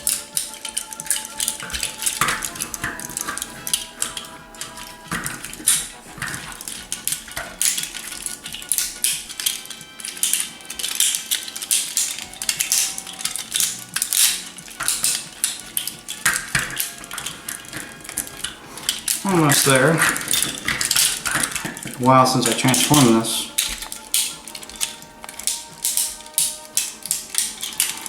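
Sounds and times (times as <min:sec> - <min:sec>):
plastic toy parts clicking: 0:00.0 - 0:28.0.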